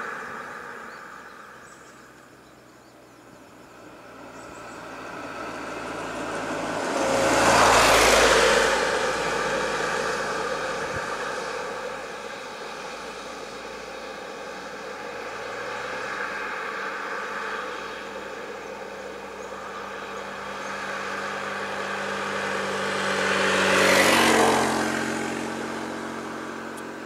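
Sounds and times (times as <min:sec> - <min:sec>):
vehicles passing by: 0:00.0 - 0:27.0.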